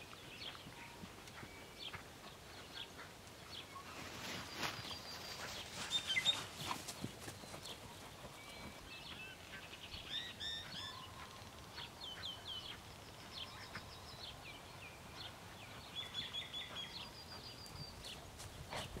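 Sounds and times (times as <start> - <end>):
faint outdoor background noise: 0.0 - 19.0
birds chirping and whistling: 3.6 - 18.9.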